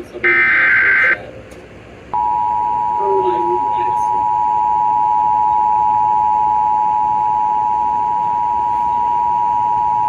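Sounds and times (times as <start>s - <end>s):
two-tone alarm: 0.2s - 1.2s, 2.2s - 10.0s.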